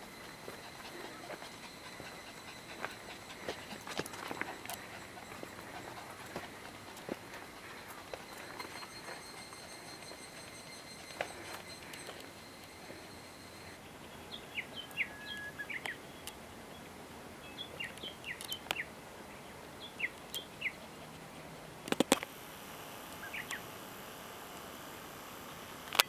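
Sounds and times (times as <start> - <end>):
songbird chirping: 0.0 - 21.0, 23.2 - 23.7.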